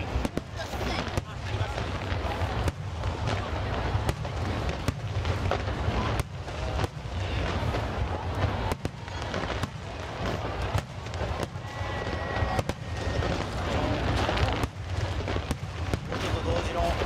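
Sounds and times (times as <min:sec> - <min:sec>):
distant explosions rumble: 0:00.0 - 0:17.0.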